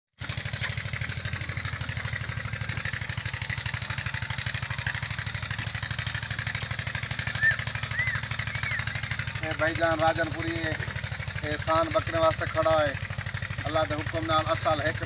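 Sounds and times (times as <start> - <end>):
engine idling: 0.2 - 15.0.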